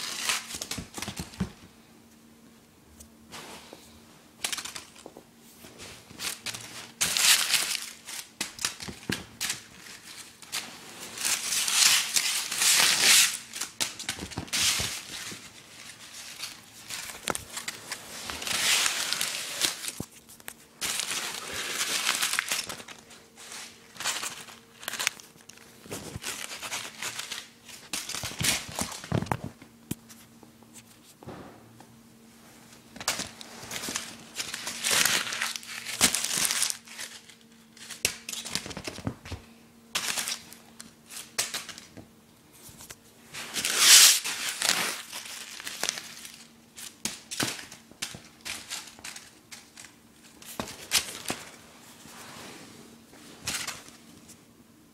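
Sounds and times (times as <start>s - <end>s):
paper crinkling and rustling: 0.0s - 1.6s, 4.4s - 31.2s, 32.7s - 42.0s, 42.6s - 54.4s.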